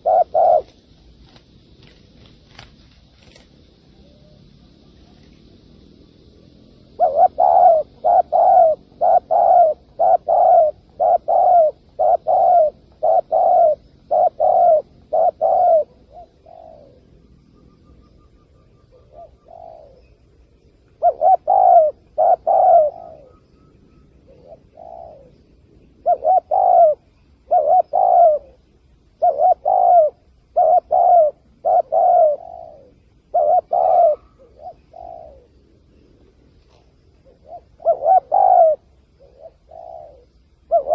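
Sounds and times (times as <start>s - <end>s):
dove cooing: 0.0s - 5.6s, 6.4s - 40.9s.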